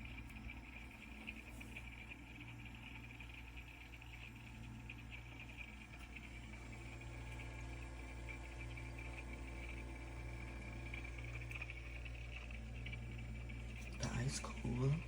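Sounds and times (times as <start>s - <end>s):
fridge low hum: 0.0s - 15.0s.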